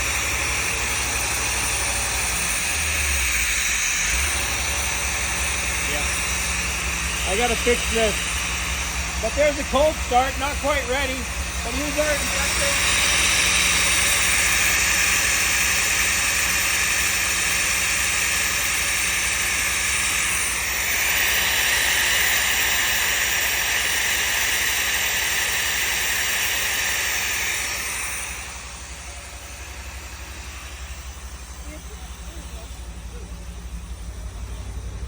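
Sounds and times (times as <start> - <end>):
loud hiss from air intake: 0.0 - 31.8
car engine idling: 0.0 - 35.0.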